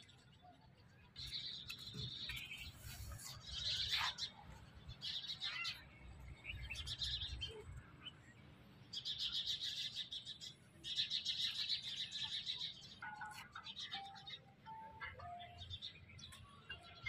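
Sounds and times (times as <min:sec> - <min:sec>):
flock of small birds chirping: 0:00.0 - 0:17.0.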